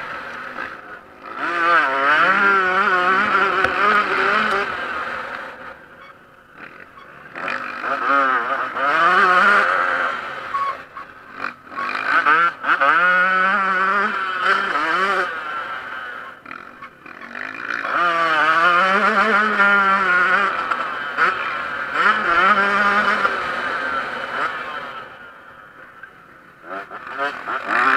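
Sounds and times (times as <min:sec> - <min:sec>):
motocross bike engine revving: 0:00.0 - 0:27.9.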